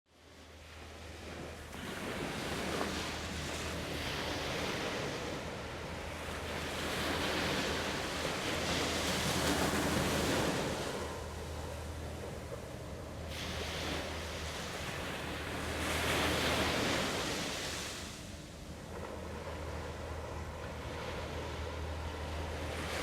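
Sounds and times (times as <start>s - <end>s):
steady low hum: 0.2s - 23.0s
wind and waves rushing: 0.2s - 23.0s.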